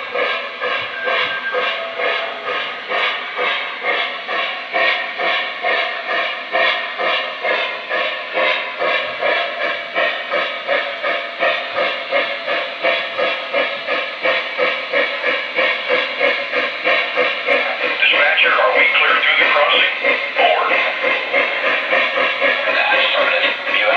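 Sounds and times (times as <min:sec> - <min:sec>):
model steam locomotive chuffing: 0:00.0 - 0:23.9.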